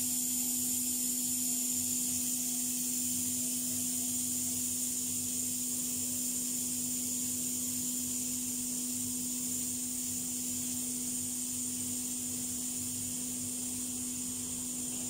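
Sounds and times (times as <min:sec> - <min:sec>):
steam hissing from pressure cooker: 0:00.0 - 0:15.0.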